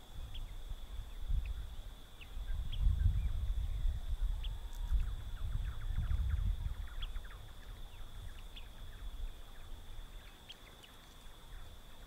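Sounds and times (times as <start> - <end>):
low wind rumble: 0.0 - 10.5
faint bird chirps: 0.0 - 12.0.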